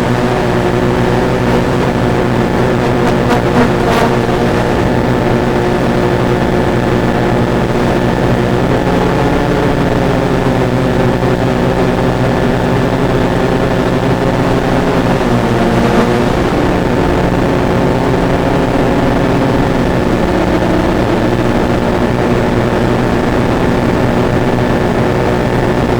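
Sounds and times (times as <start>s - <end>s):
drone propellers humming: 0.0s - 25.9s.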